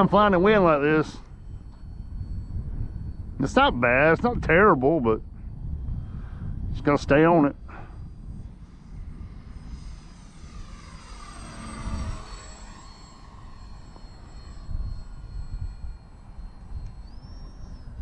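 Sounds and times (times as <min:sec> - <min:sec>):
model airplane motor whining: 0:00.0 - 0:18.0
wind rumble on microphone: 0:00.0 - 0:18.0.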